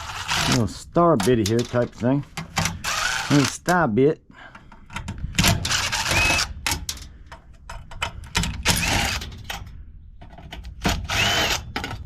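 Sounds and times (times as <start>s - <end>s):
tools and metal parts clattering: 0.0s - 3.8s, 4.5s - 12.0s.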